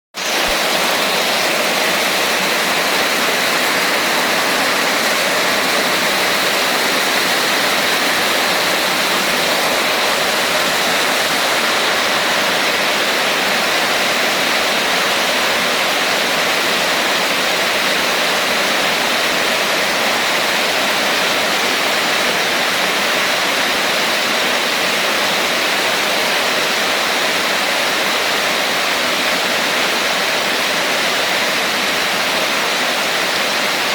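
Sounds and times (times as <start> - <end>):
steady rain hiss: 0.2 - 33.9.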